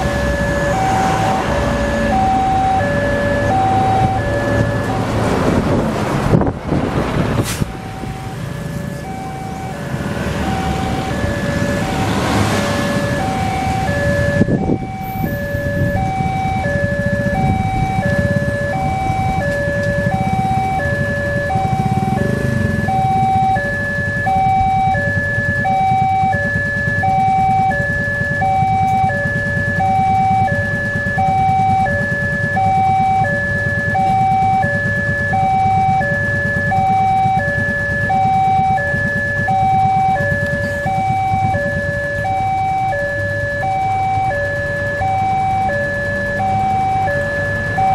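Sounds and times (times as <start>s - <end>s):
level crossing two-tone alarm: 0.0s - 5.7s, 7.7s - 47.9s
bus passing: 0.0s - 47.9s.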